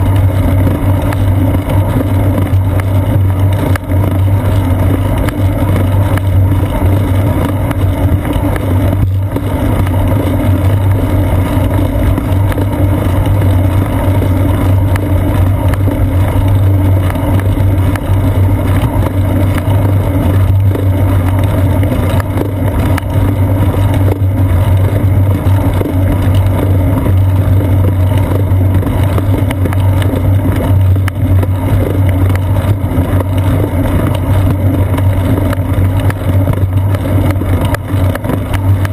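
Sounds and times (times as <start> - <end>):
bicycle rolling on asphalt: 0.0 - 38.9.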